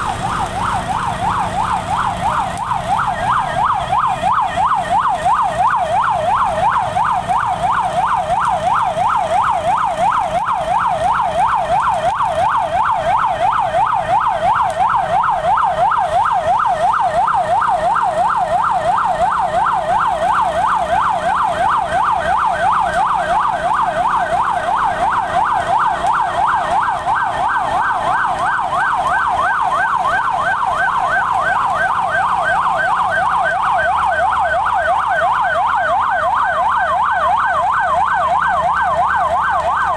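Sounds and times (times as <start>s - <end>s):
fire engine siren yelping: 0.0s - 39.9s.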